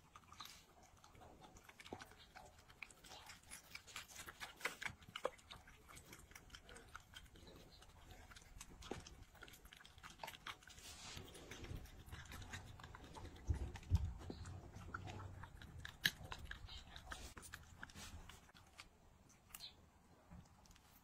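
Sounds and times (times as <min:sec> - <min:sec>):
dog chewing and smacking: 0:00.0 - 0:19.7.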